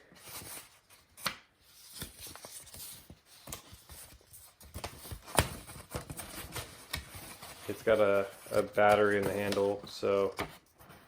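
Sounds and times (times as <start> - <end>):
paper rustling: 0.2 - 11.0.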